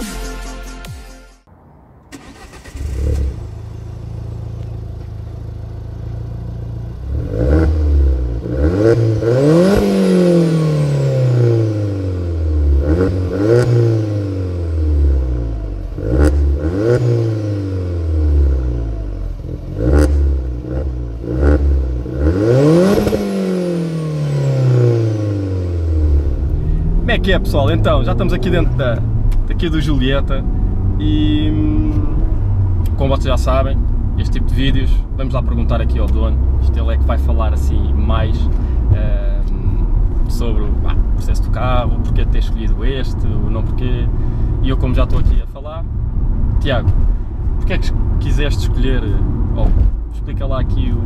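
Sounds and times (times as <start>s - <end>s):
exhaust cracks: 2.0s - 51.0s
car engine revving: 2.1s - 45.2s.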